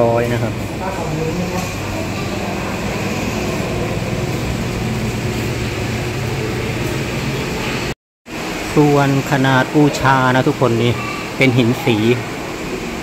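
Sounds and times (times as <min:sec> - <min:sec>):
air conditioning hum and hiss: 0:00.0 - 0:13.0.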